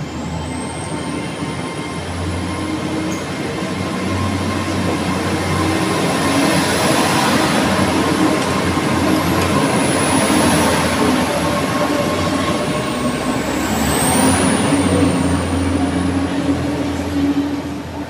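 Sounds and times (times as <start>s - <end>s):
high-pitched train whine: 0.0s - 18.0s
train diesel engines droning: 0.0s - 18.0s.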